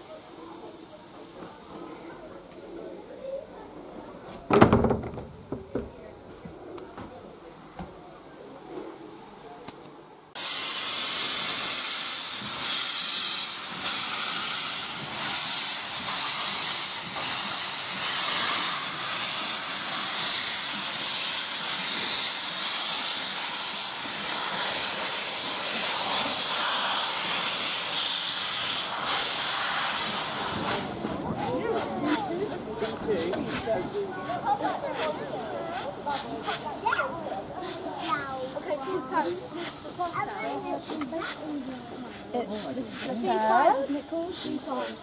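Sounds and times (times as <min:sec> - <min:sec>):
steam locomotive venting steam: 0:00.0 - 0:04.4, 0:10.3 - 0:45.0.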